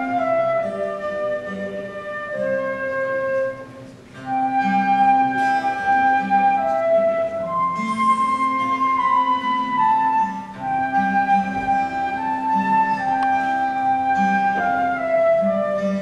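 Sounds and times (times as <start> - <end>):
acoustic guitar accompaniment: 0.0 - 16.0
flute melody: 0.0 - 16.0.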